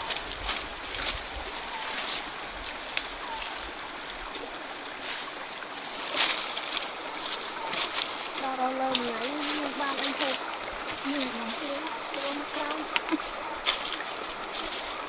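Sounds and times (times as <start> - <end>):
dry leaves and twigs crackling: 0.0 - 15.0
stream running: 0.0 - 15.0.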